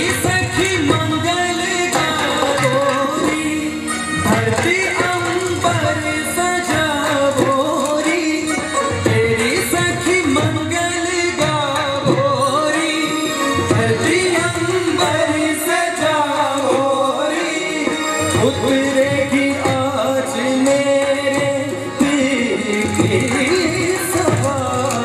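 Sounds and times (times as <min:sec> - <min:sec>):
keyboard melody: 0:00.0 - 0:25.0
person singing: 0:00.0 - 0:25.0.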